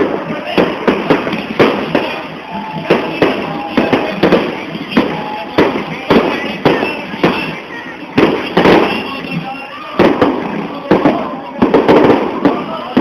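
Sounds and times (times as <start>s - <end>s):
continuous crackling din: 0.0s - 13.0s
firecrackers banging: 0.0s - 13.0s.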